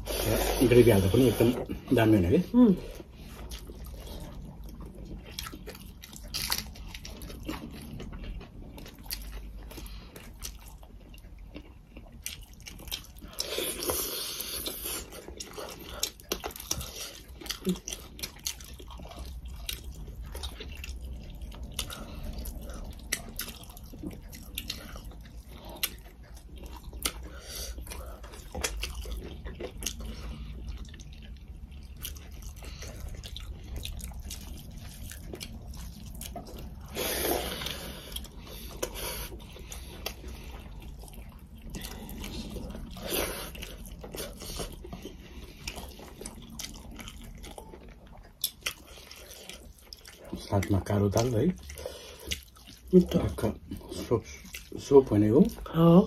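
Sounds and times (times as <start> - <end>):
wet chewing and smacking: 0.0 - 56.0.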